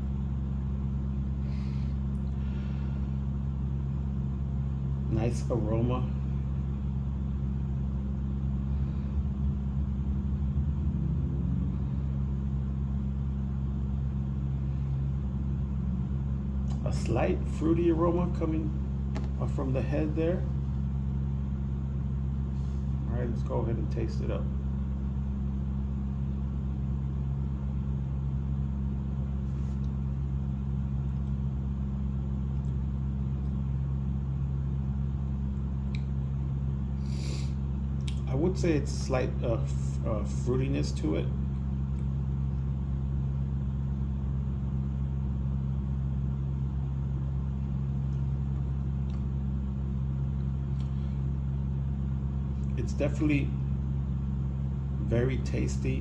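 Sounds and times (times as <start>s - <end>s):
low machine hum: 0.0s - 56.0s
steady low tones: 0.0s - 56.0s.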